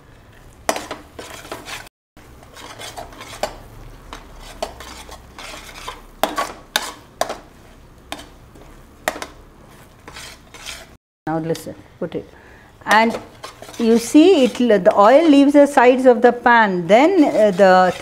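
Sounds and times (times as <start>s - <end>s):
spoon scraping cooking pan: 0.3s - 11.6s, 12.8s - 16.2s, 17.0s - 18.0s.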